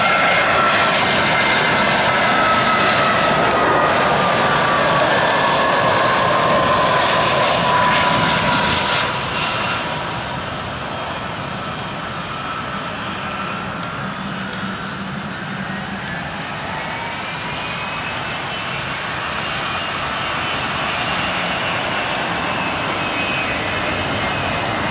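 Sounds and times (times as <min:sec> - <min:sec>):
jet engines spooling up: 0:00.0 - 0:24.9
jet engines whining: 0:00.0 - 0:24.9.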